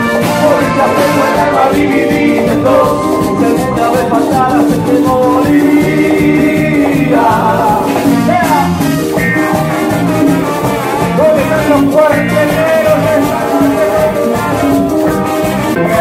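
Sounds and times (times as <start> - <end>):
live band playing cumbia: 0.0 - 16.0.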